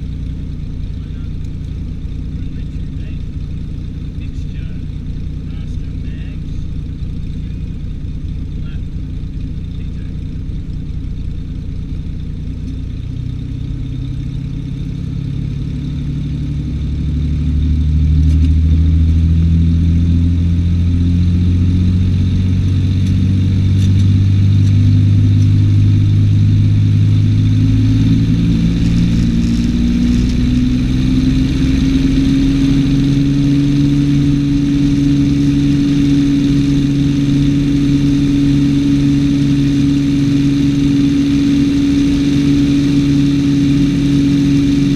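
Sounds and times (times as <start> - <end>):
propeller plane engine running: 0.0 - 44.9.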